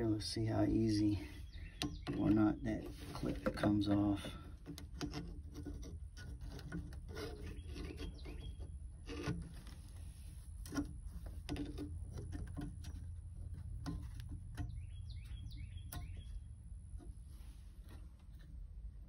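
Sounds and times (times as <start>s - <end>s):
small metal clicks and scrapes: 1.8s - 17.2s.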